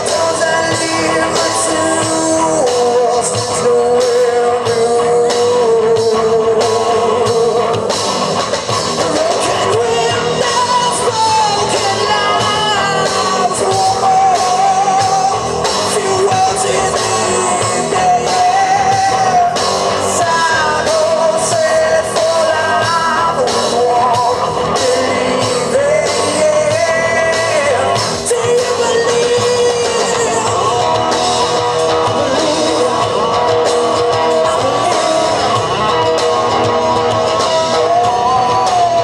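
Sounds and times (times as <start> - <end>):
person singing: 0.0 - 8.0, 8.8 - 39.0
rock band playing: 0.0 - 39.0.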